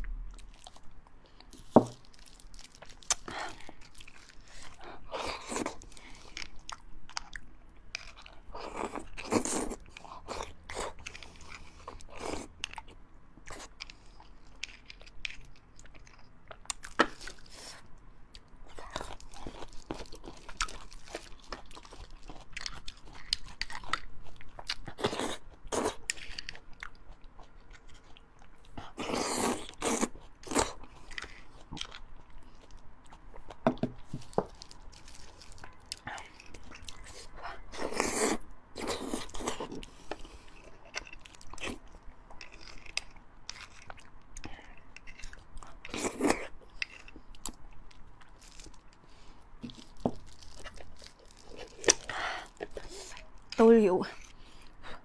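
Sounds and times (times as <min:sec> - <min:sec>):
chewing bone marrow: 0:00.3 - 0:55.0.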